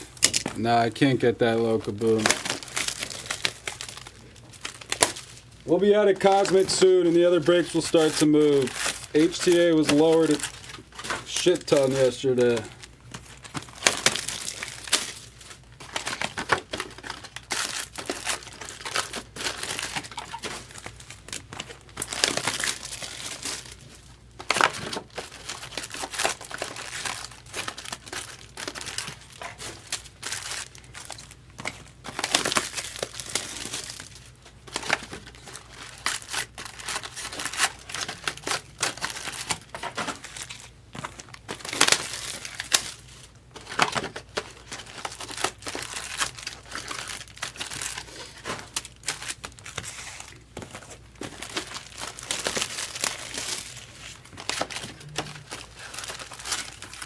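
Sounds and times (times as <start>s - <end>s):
foil crackling: 0.0s - 57.0s
foil wrappers tearing and crinkling: 0.0s - 57.0s.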